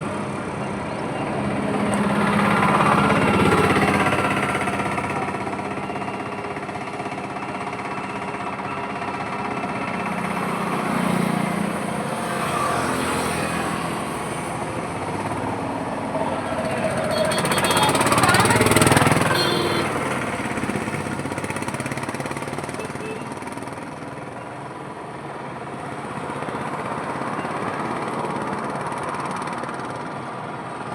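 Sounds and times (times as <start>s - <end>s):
steady engine hum: 0.0s - 30.9s
vehicles passing on highway: 0.0s - 30.9s.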